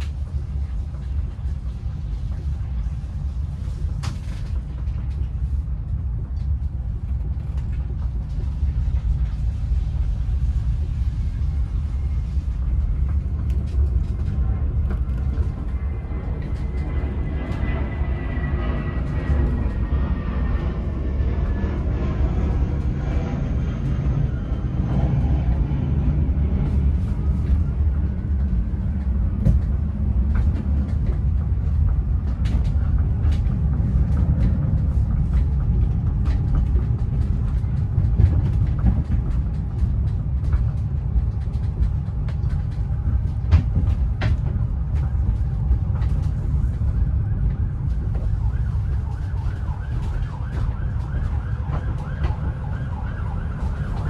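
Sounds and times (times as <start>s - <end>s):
vehicle low rumble: 0.0s - 54.0s.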